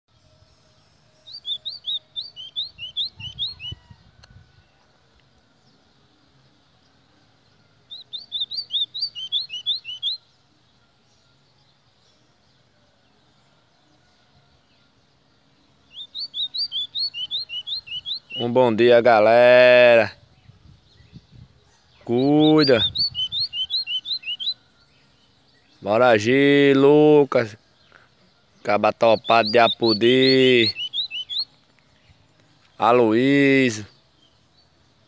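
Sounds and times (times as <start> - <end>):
bird song whistled notes: 0.1 - 35.0.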